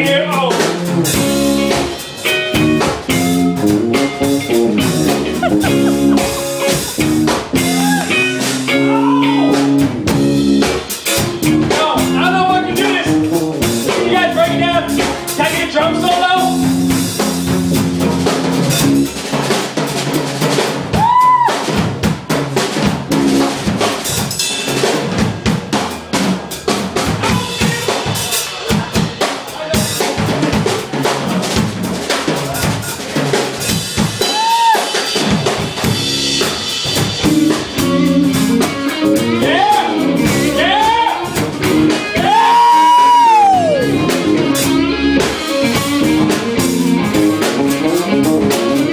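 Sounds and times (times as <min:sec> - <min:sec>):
band playing: 0:00.0 - 0:48.9.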